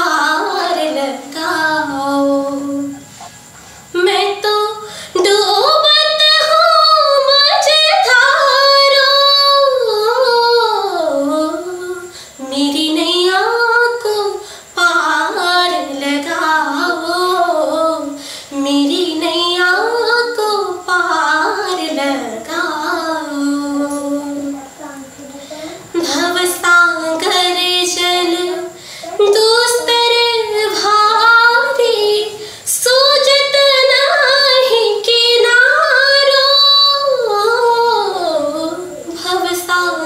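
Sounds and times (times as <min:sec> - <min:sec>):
woman singing: 0:00.0 - 0:03.0, 0:04.0 - 0:24.7, 0:25.9 - 0:40.0.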